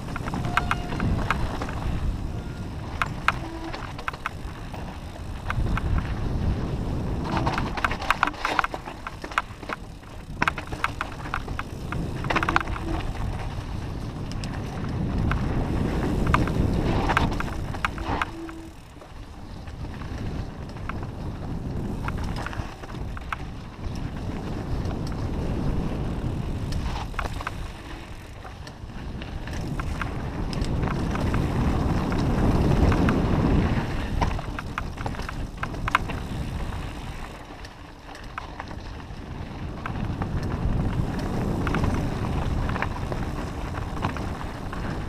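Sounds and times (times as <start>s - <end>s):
bike rattling over rocks: 0.0s - 45.0s
tyres crunching over gravel: 0.0s - 45.0s
wind buffeting microphone: 0.0s - 45.0s.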